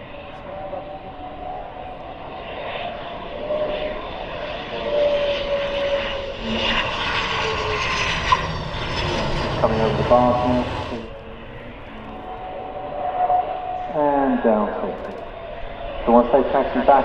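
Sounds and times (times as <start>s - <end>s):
high-pitched jet whine: 0.0s - 17.0s
jet engines: 0.0s - 17.0s.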